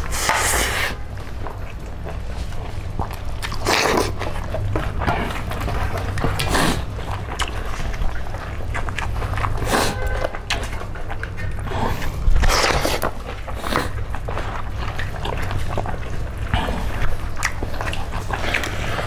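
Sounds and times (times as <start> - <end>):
chewing and mouth noises: 0.0 - 19.0
steady low hum: 0.0 - 19.0.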